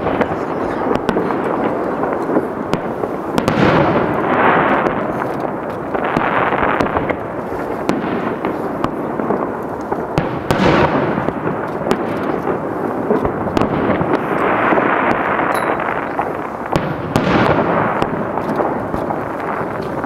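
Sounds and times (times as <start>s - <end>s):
crackling pops: 0.0s - 20.0s
firework booms: 0.0s - 20.0s.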